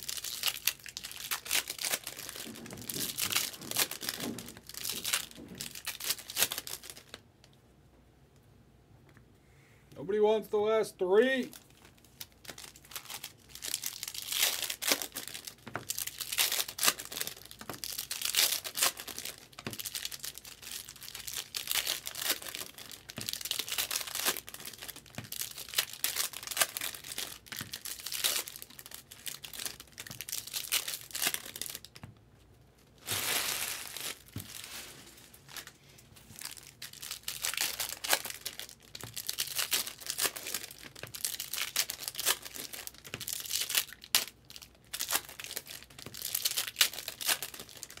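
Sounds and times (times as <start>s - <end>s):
foil wrappers crinkling and tearing: 0.0s - 7.2s, 11.3s - 32.1s, 32.9s - 48.0s.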